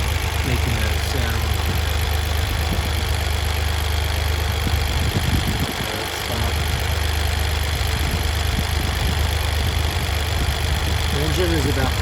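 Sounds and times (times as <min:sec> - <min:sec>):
car engine idling: 0:00.0 - 0:12.0
engine ticking: 0:00.0 - 0:12.0.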